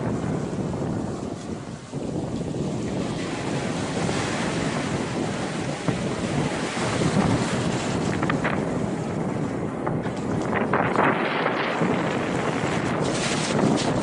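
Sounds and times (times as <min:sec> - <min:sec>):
small waves washing onto beach: 0:00.0 - 0:14.0
wind buffeting microphone: 0:00.0 - 0:14.0.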